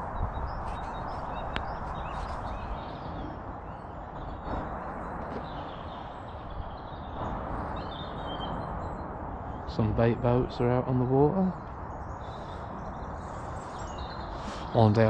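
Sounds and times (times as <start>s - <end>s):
faint bird chirps: 0.0s - 15.0s
rumbling hiss: 0.8s - 15.0s.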